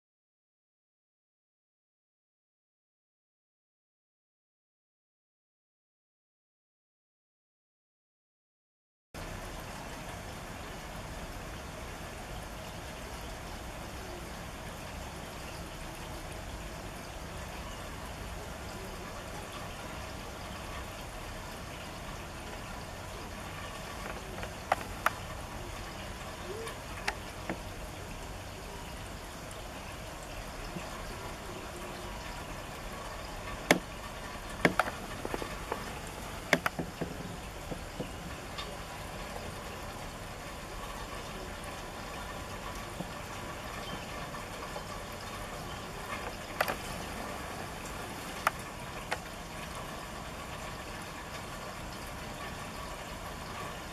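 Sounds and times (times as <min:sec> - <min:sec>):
rain falling steadily: 0:09.2 - 0:53.9.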